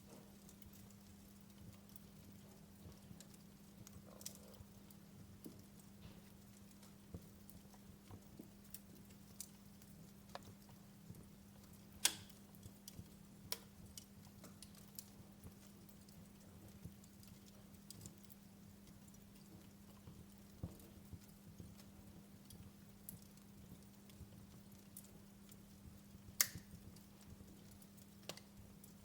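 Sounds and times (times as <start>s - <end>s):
faint steady hum: 0.0s - 29.0s
wood fire crackling: 0.0s - 29.0s.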